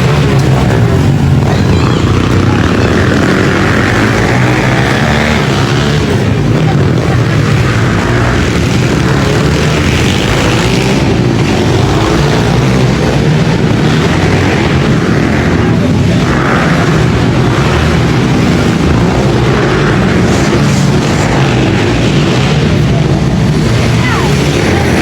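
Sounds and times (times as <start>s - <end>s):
motorbike engines racing: 0.0s - 25.0s.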